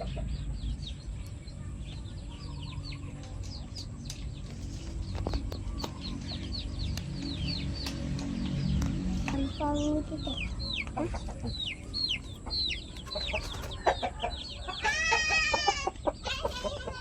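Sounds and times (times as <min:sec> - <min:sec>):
chicks peeping: 0:00.0 - 0:17.0
low rumble: 0:00.1 - 0:14.6.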